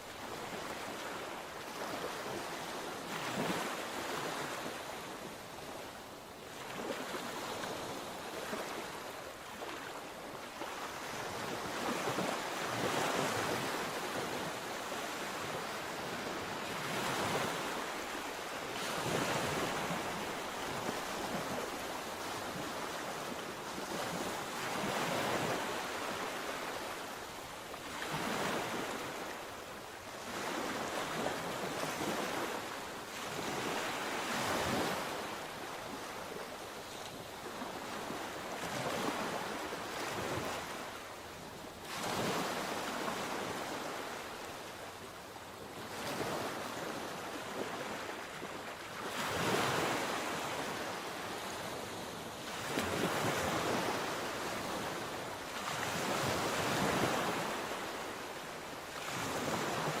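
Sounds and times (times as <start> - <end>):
sea waves breaking on shore: 0.0 - 60.0.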